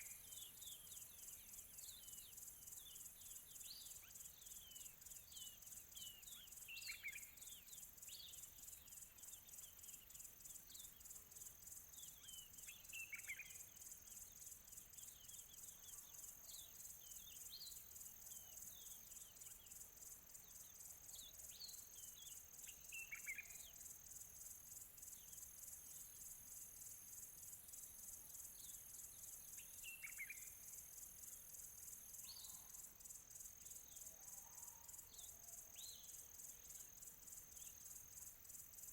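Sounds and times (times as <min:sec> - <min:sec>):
faint birdsong chirps: 0:00.0 - 0:38.9
insect trill: 0:00.0 - 0:38.9.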